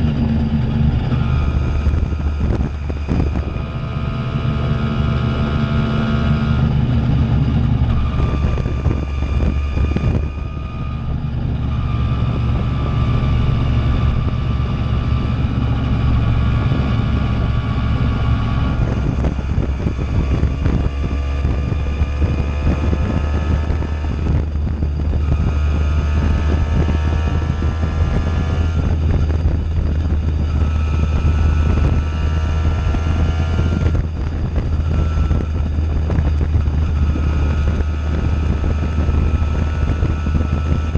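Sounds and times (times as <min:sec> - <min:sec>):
moped engine accelerating: 0:00.0 - 0:40.9.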